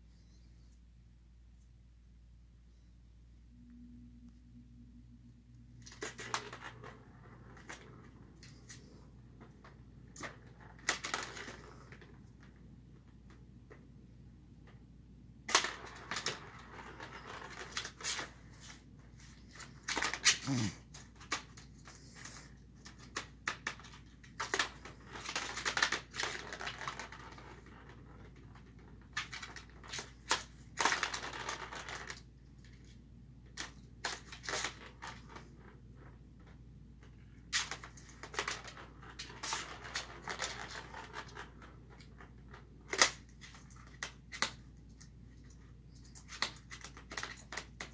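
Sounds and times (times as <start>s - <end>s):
ball rattling round plastic track: 5.8s - 13.8s, 15.5s - 22.0s, 22.7s - 47.9s.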